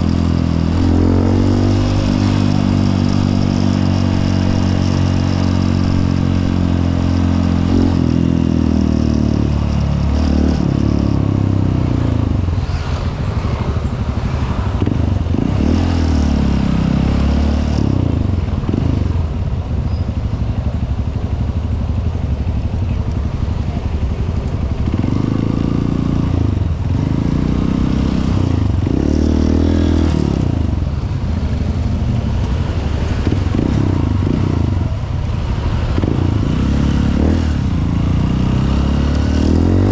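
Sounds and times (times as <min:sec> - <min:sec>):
motorcycle engine revving: 0:00.0 - 0:19.6, 0:21.5 - 0:39.9.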